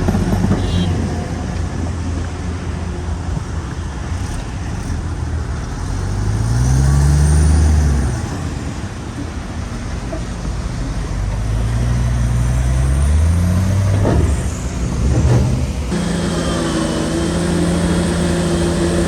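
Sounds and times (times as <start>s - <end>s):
bulldozer diesel engine revving: 0.0s - 2.2s, 3.9s - 19.0s.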